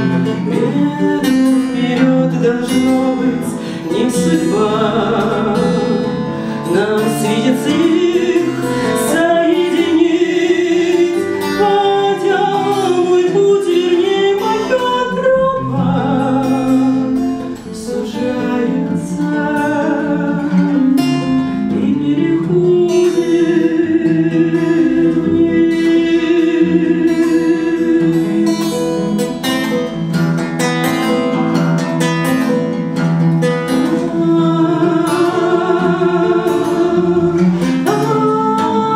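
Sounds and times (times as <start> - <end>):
woman singing: 0.0 - 29.7, 33.7 - 38.9
acoustic guitar: 0.0 - 38.9.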